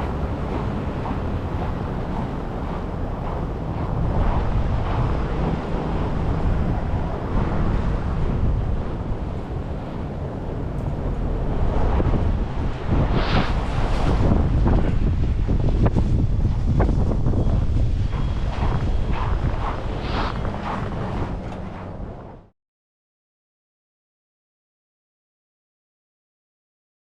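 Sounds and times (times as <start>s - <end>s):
storm wind buffeting microphone: 0.0s - 22.5s.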